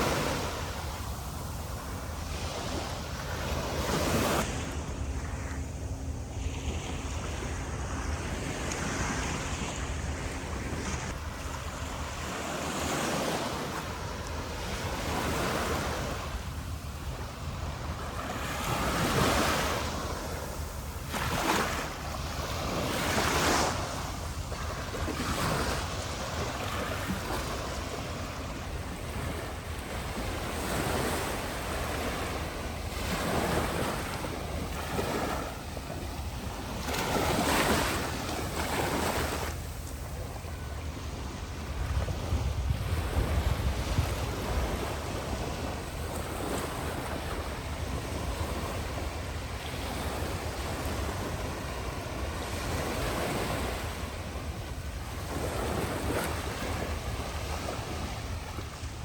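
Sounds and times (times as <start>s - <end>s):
sea waves breaking on shore: 0.0s - 59.0s
wind buffeting microphone: 0.0s - 59.0s.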